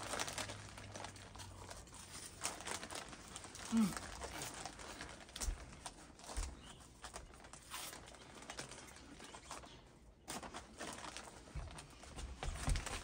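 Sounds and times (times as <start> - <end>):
crunchy snacks being chewed: 0.0 - 11.8.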